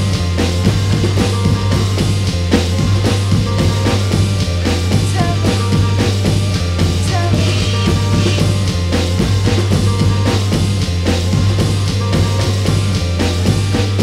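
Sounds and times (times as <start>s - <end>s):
drum kit playing fast: 0.0s - 14.0s
low bass drone: 0.0s - 14.0s
noisy electric guitar: 0.0s - 14.0s.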